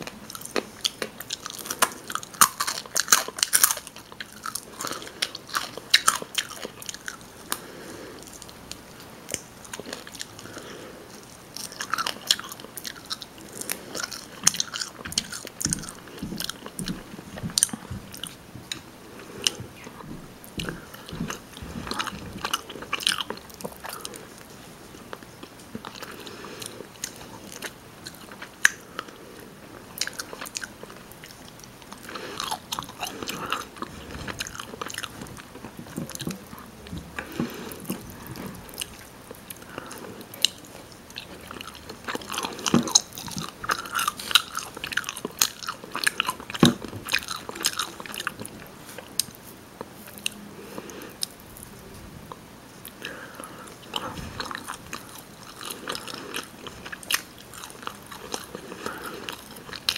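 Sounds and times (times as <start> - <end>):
wet chewing and biting: 0.0 - 29.2, 29.9 - 51.7, 52.8 - 59.9.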